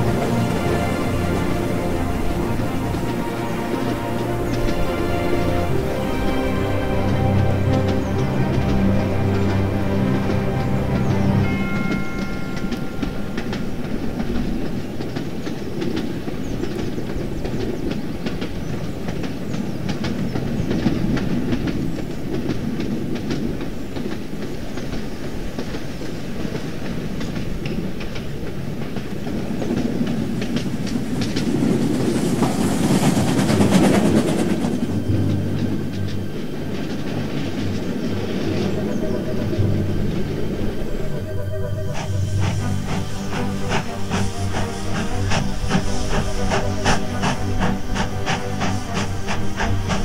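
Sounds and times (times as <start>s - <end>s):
train passing rush: 0.0s - 50.0s
train rumble on track: 0.0s - 50.0s.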